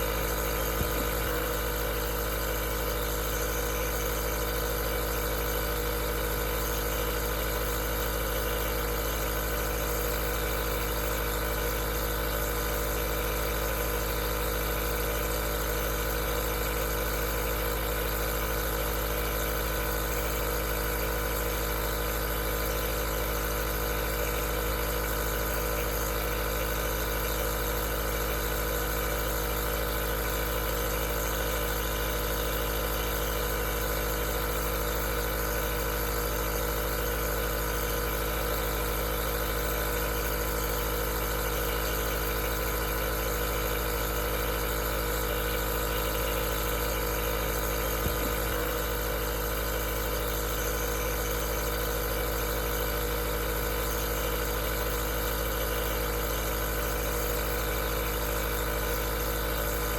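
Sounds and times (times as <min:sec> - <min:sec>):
nebulizer compressor humming: 0:00.0 - 0:59.9.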